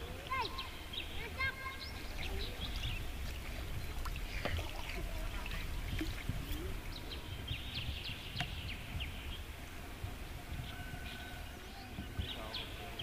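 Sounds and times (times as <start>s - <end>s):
faint distant voices: 0.0s - 8.6s, 9.5s - 13.0s.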